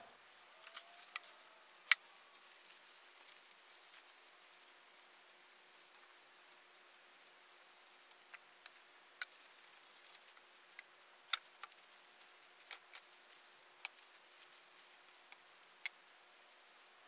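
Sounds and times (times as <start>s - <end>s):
hiss with faint hum: 0.0s - 17.0s.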